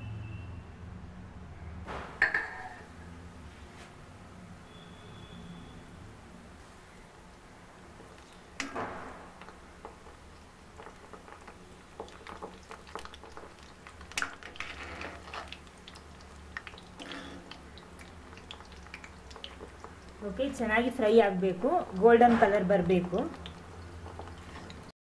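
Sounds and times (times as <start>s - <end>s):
dough deep-frying in hot oil: 3.4s - 25.0s.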